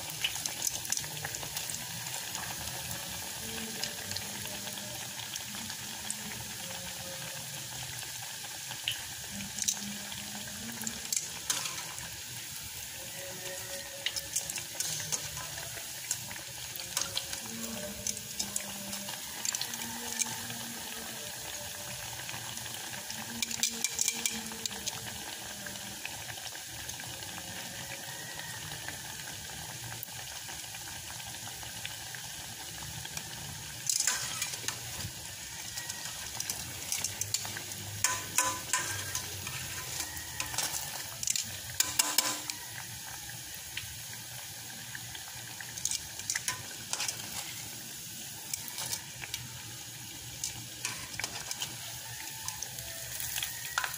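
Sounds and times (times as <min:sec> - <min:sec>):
deep-frying in hot oil: 0:00.0 - 0:53.9
oil popping and crackling: 0:00.0 - 0:53.9.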